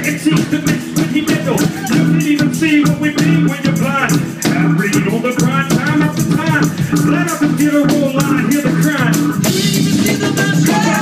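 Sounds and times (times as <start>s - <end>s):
keyboards: 0.0s - 11.0s
man singing lead vocal: 0.0s - 11.0s
repeating bass line: 0.0s - 11.0s.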